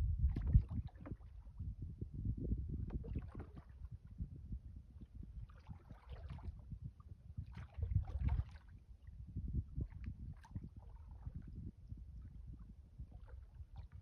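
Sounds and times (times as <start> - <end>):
wind rumbling on microphone: 0.0 - 14.0
water splashing against boat: 0.2 - 1.7, 2.7 - 4.2, 5.2 - 14.0.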